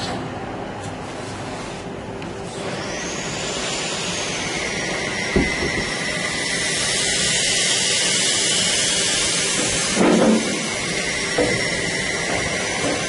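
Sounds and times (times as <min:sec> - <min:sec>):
machine rush of air: 0:01.2 - 0:13.0
high whine: 0:01.9 - 0:13.0.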